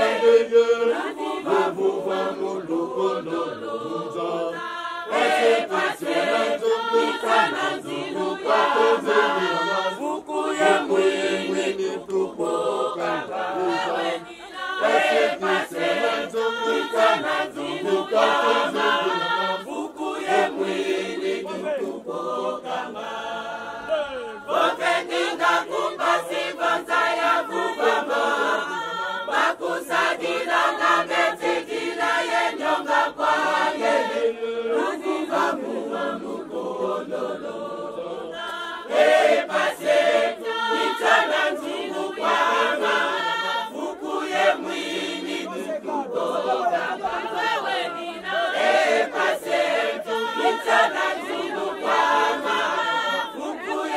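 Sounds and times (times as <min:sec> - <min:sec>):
female choir singing: 0:00.0 - 0:53.9.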